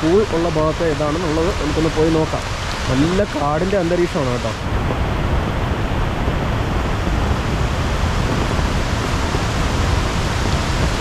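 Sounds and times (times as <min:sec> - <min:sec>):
rain falling: 0:00.0 - 0:11.0
waterfall rushing: 0:00.0 - 0:11.0.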